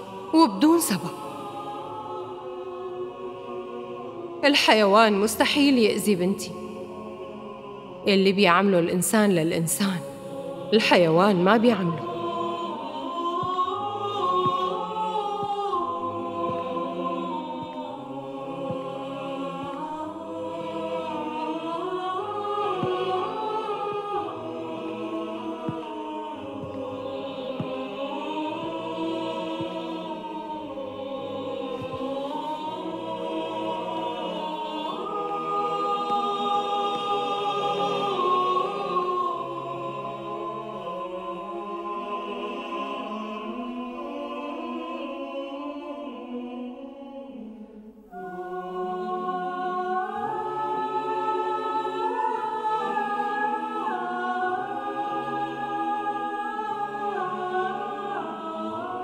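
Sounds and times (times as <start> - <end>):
choir singing held notes: 0.0 - 59.0.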